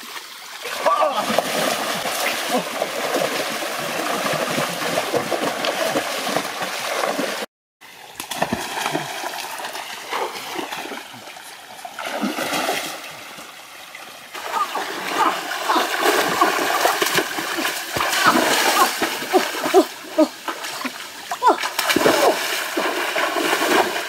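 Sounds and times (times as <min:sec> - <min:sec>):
stream rushing: 0:00.0 - 0:24.0
water splashing: 0:00.0 - 0:24.0.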